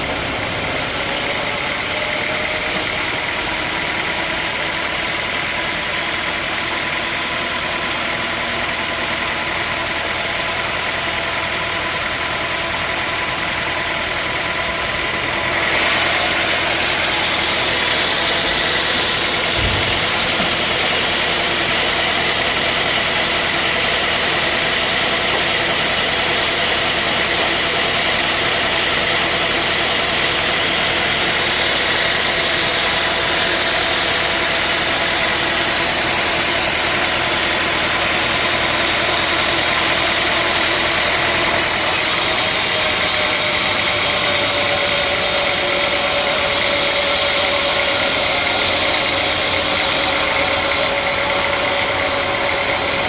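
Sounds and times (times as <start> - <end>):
sawmill saw droning: 0.0 - 53.0.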